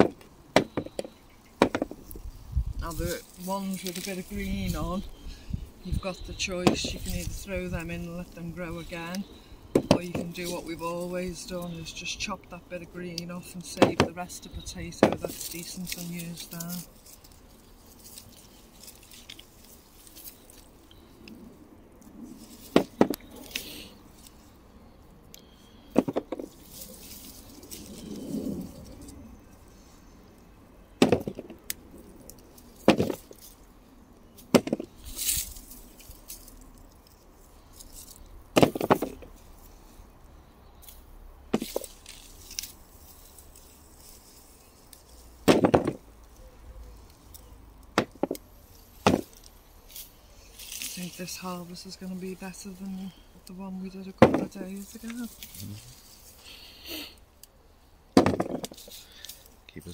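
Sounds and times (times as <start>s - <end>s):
hands working through soil: 0.0s - 57.6s.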